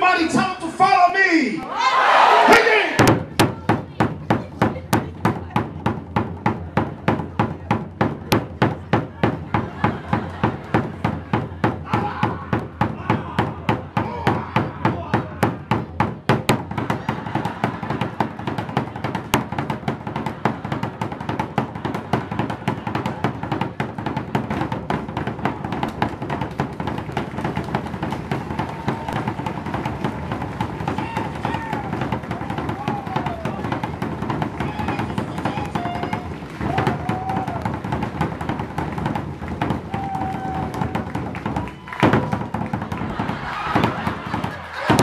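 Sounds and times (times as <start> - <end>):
standing drums beaten with sticks: 2.9 - 45.0.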